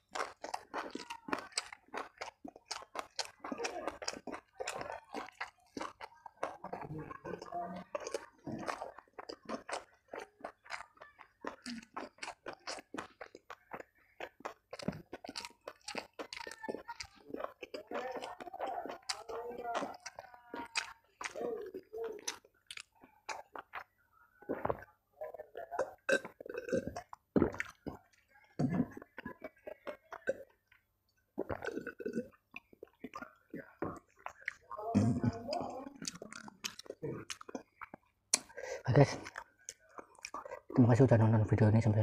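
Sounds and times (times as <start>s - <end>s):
person chewing food: 0.0s - 41.3s
gulping and swallowing: 0.0s - 42.0s.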